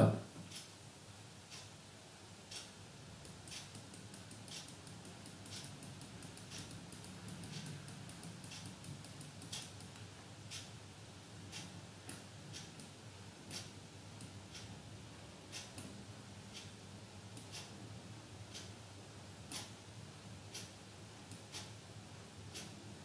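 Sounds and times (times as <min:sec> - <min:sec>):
low steady hum: 0:00.0 - 0:23.0
faint clock ticking: 0:00.4 - 0:00.8, 0:01.4 - 0:23.0.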